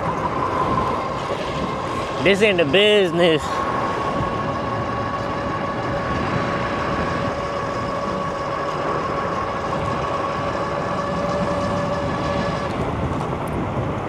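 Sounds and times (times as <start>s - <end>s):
electric motor whine: 0.0s - 14.0s
wind rush: 0.0s - 14.0s.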